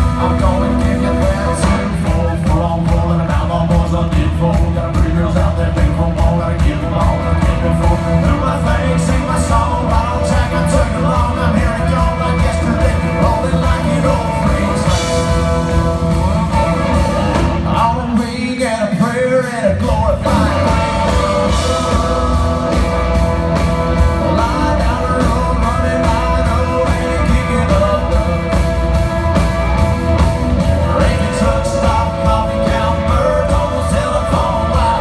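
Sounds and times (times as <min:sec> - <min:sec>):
country band playing live: 0:00.0 - 0:35.0.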